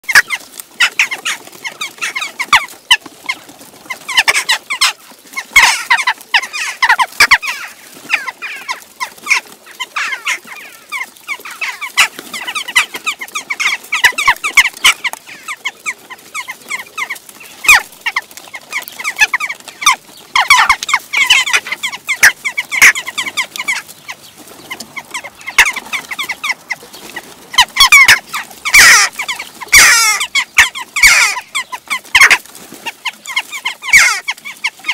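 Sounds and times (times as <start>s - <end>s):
jackdaw flock calling: 0.0s - 34.9s.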